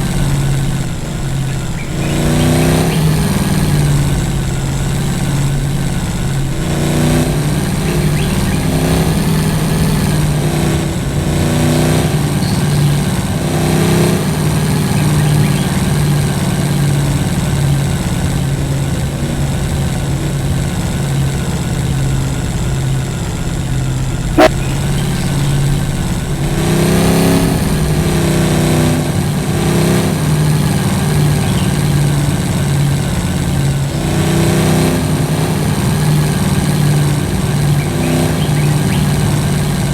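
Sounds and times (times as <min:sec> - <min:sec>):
vehicle engine driving off-road: 0:00.0 - 0:39.9.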